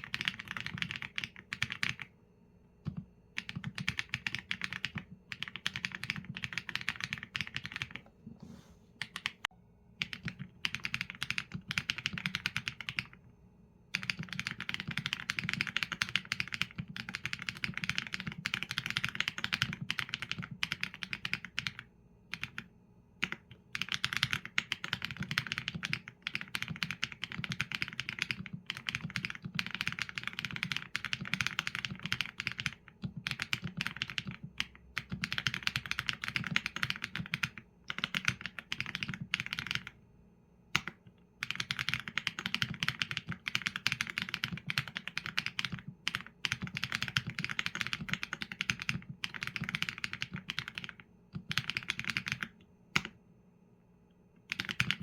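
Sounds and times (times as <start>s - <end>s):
fast mechanical keyboard typing: 0.0s - 2.1s, 2.8s - 8.0s, 9.0s - 9.4s, 10.0s - 13.2s, 13.9s - 40.0s, 40.8s - 53.1s, 54.4s - 55.0s.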